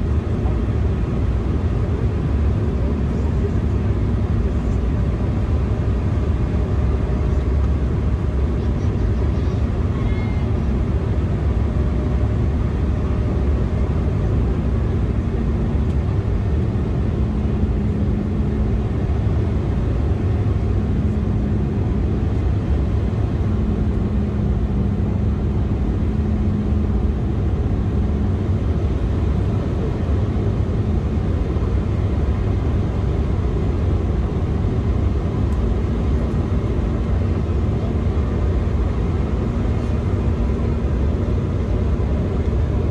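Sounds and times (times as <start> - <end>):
airliner cabin engine roar: 0.0 - 42.9.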